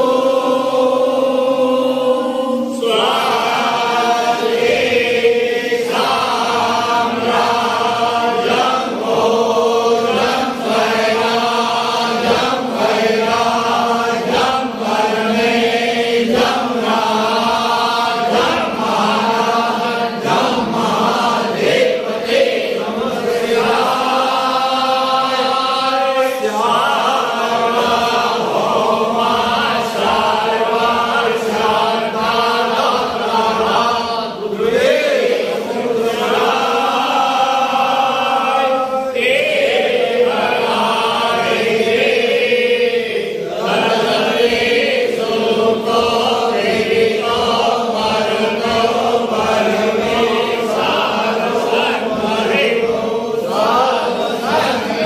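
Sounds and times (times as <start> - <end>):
men and boys chanting a hymn: 0.0 - 55.0.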